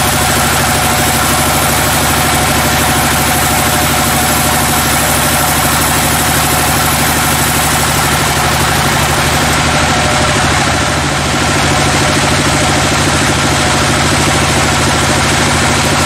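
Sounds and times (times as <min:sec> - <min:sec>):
band saw machine drone: 0:00.0 - 0:16.0.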